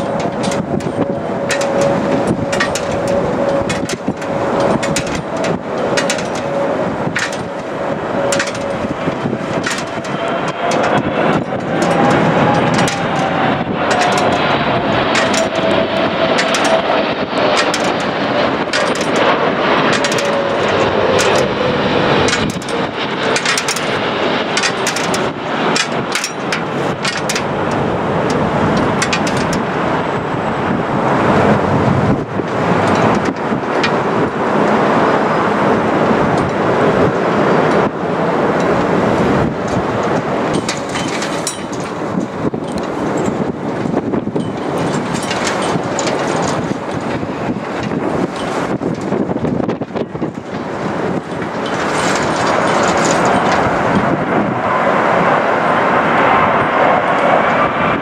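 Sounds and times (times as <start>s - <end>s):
engine whine falling in pitch: 0.0s - 58.0s
jet airliner passing overhead: 0.0s - 58.0s.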